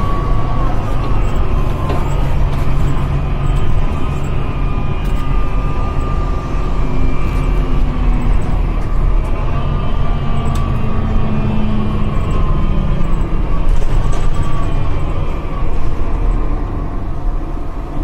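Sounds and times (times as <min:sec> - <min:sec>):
bus engine drone: 0:00.0 - 0:18.0
gearbox whine: 0:00.0 - 0:18.0.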